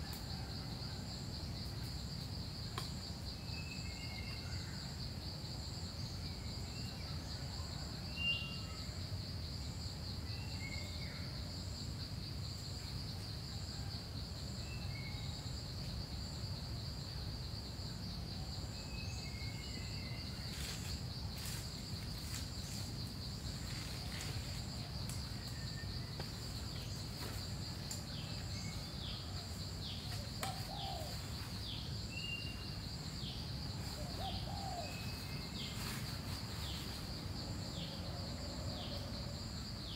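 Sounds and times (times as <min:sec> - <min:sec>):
high insect drone: 0:00.0 - 0:39.9
pulsing insect call: 0:00.0 - 0:39.9.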